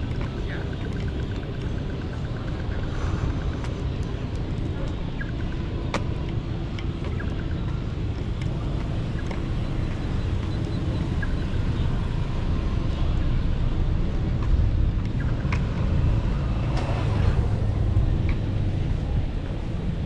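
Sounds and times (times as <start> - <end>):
road traffic drone: 0.0 - 20.0.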